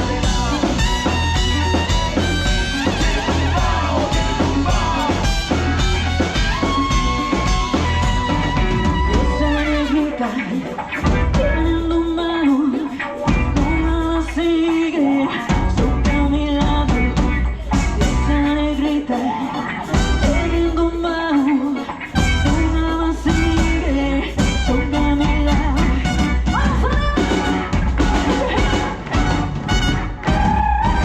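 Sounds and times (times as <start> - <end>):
live latin pop band playing: 0.0 - 31.0.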